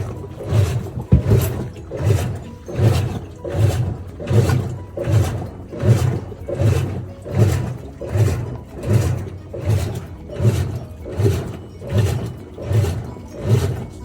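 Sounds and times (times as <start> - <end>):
washing machine agitating: 0.0 - 14.0.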